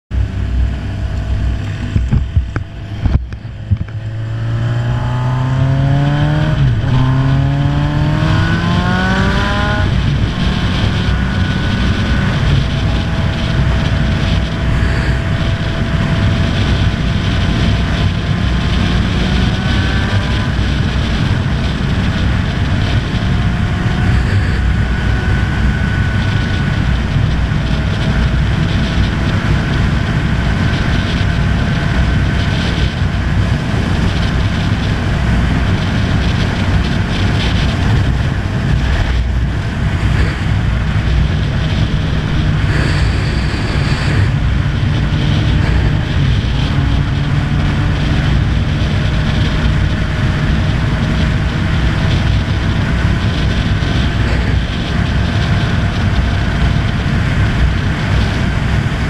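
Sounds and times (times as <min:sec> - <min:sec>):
motorcycle engine accelerating: 0:00.1 - 0:59.0
wind rush on microphone: 0:00.1 - 0:59.0.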